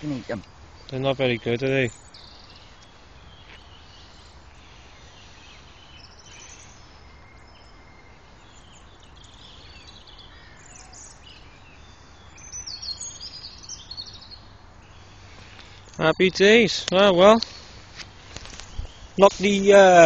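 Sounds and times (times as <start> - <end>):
birds chirping and calling: 0.0 - 20.0
outdoor background noise: 0.0 - 20.0.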